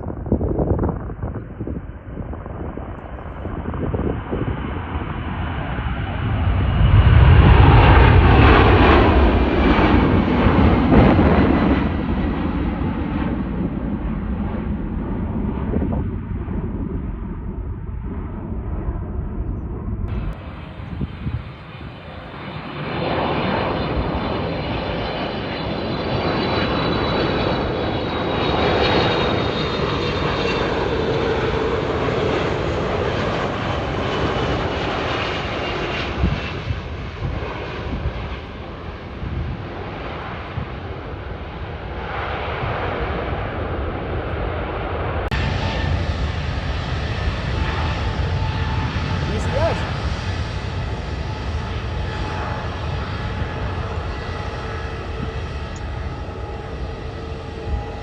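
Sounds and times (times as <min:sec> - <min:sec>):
jet engines roaring past: 0:00.0 - 0:58.0.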